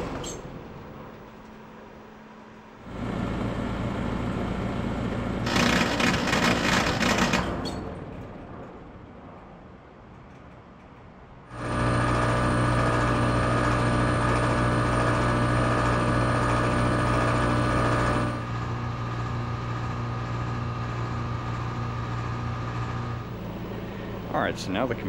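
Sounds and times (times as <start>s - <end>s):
compressor loud electrical hum: 0.0s - 9.9s, 11.2s - 25.0s
condenser fan running: 2.0s - 8.6s, 11.5s - 25.0s.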